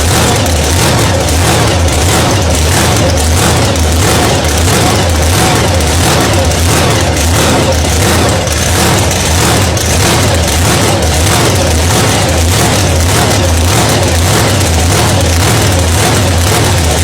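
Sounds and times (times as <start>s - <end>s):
car engine running loudly: 0.0s - 17.0s.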